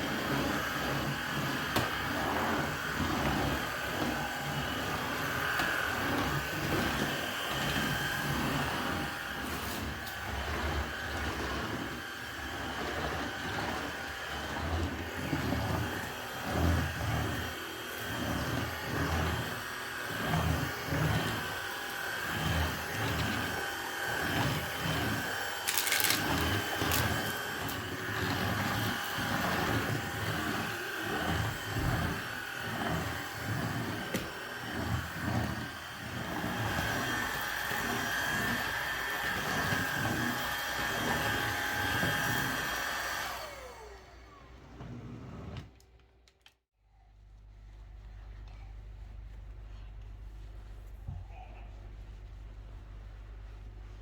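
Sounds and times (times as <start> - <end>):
small electric motor whine: 0.1 - 44.4.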